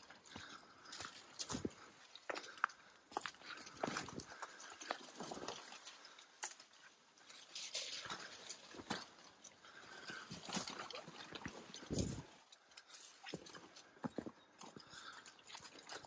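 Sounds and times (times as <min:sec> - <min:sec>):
footsteps on a trail: 0:00.0 - 0:16.0.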